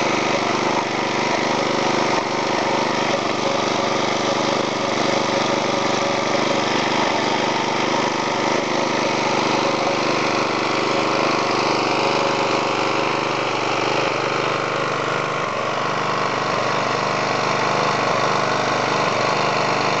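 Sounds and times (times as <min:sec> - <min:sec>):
rototiller engine running: 0:00.0 - 0:20.0.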